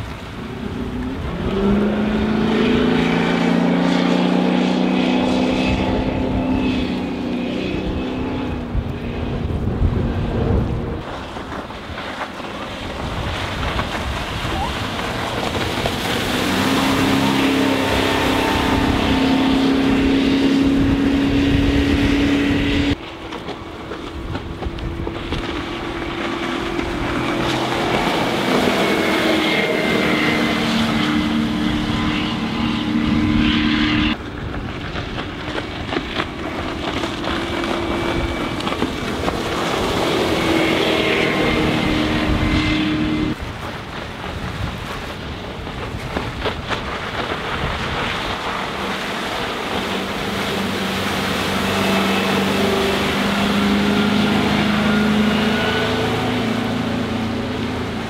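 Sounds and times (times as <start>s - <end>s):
boat engine passing: 0.0s - 58.0s.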